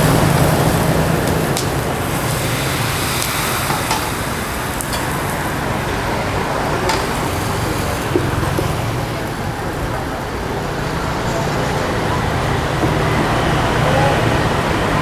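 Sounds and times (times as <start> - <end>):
batter sizzling in pans: 0.0 - 13.6
street traffic noise: 0.0 - 15.0.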